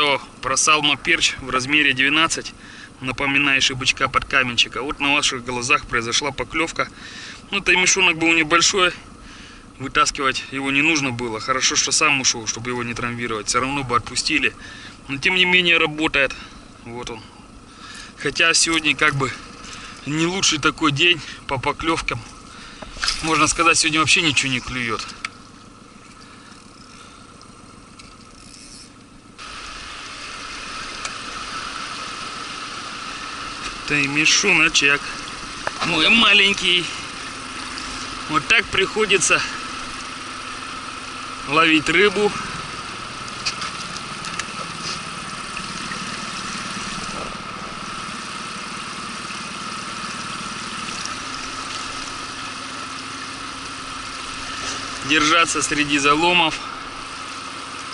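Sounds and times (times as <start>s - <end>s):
outboard motor running: 0.0s - 57.9s.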